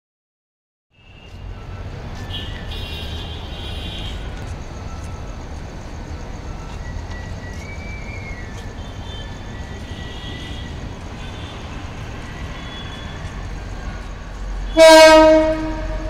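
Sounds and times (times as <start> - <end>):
diesel locomotive idling: 1.2 - 16.0.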